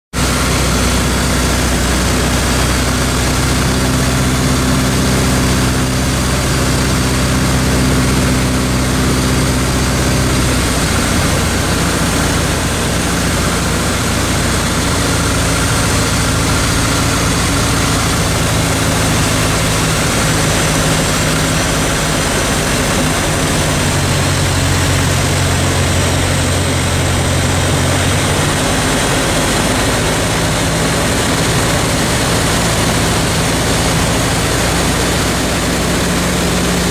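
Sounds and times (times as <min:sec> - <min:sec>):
propeller aircraft engine: 0:00.1 - 0:36.9
airflow noise: 0:00.2 - 0:36.9.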